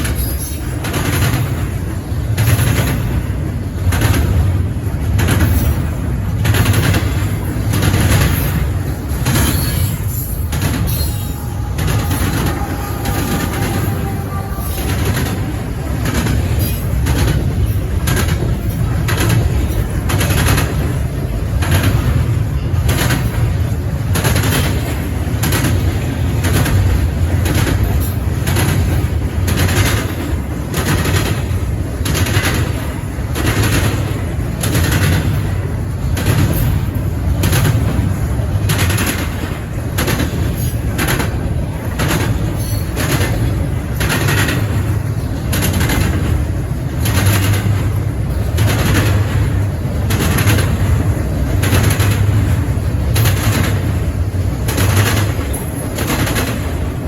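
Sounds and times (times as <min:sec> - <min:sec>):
train wheels rumbling on rail: 0:00.0 - 0:57.0
wheels clacking over track joints: 0:00.0 - 0:57.0.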